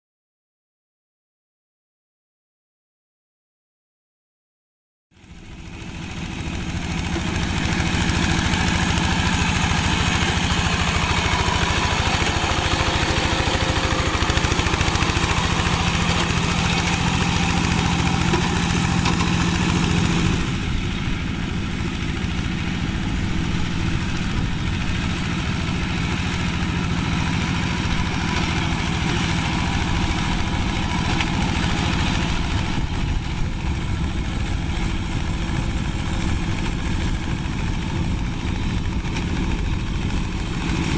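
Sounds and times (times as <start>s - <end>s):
diesel tractor engine running: 5.2s - 40.9s.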